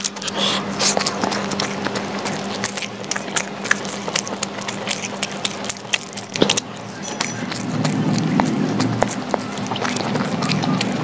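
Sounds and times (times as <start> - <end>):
low steady hum: 0.0 - 11.0
man chewing and slurping noodles: 0.0 - 11.0
wet mouth clicks and smacks: 0.0 - 11.0.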